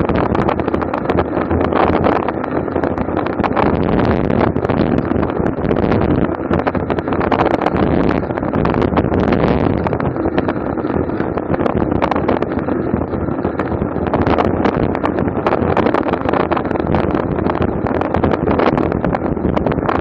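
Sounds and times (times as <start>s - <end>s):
road and tyre noise: 0.0s - 20.0s
wind buffeting microphone: 0.0s - 20.0s.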